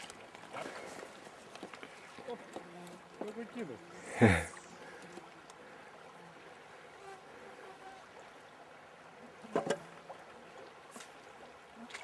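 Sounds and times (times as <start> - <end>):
shallow river rushing: 0.0 - 12.0.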